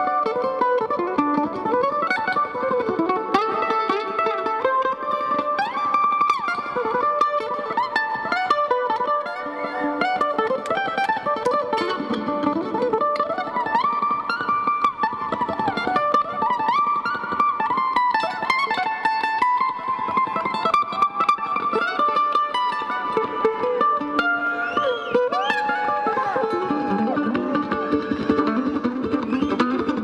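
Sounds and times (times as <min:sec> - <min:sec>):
mandolin picked runs: 0:00.0 - 0:30.0.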